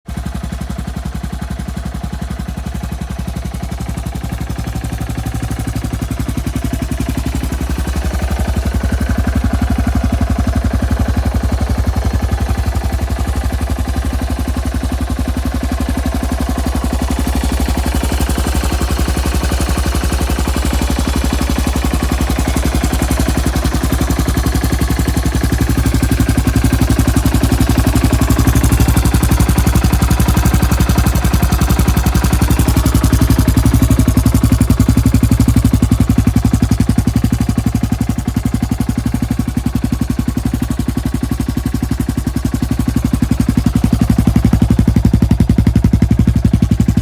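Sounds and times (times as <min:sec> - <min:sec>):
single-cylinder engine idling: 0:00.1 - 0:47.0.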